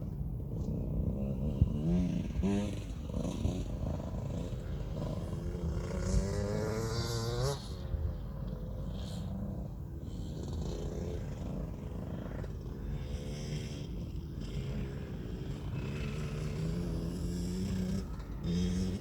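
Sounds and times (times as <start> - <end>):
two-stroke motorbike engine: 0.6 - 19.0.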